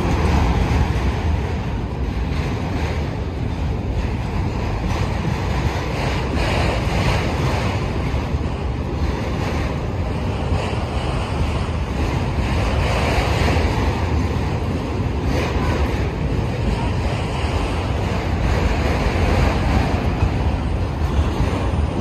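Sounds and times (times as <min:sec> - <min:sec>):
steel wheels rolling on rail: 0:00.0 - 0:22.0
wind buffeting microphone: 0:00.0 - 0:22.0.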